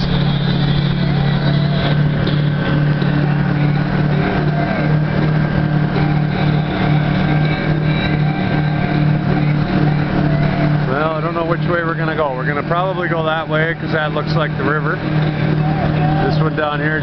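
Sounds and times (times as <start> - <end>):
jet ski engine droning: 0.0 - 17.0.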